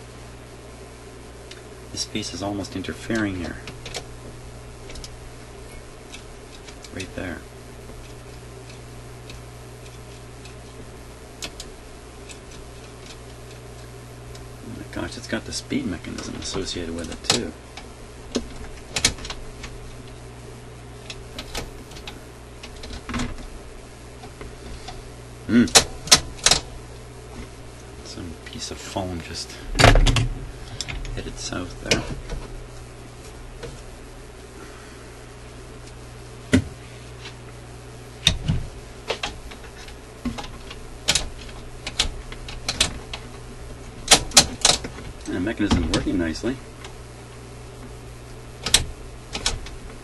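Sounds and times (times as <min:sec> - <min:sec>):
steady low hum: 0:00.0 - 0:50.0
record player mechanism clicking: 0:01.4 - 0:20.3, 0:21.0 - 0:23.6, 0:24.2 - 0:28.6, 0:29.2 - 0:33.9, 0:38.2 - 0:47.0, 0:47.7 - 0:50.0.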